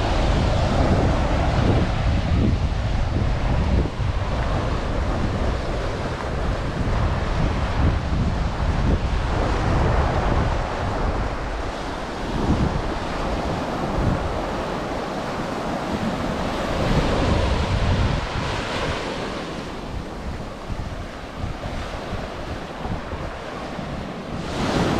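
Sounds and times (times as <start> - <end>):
ocean surf on beach: 0.0 - 24.9
wind buffeting microphone: 0.0 - 24.9.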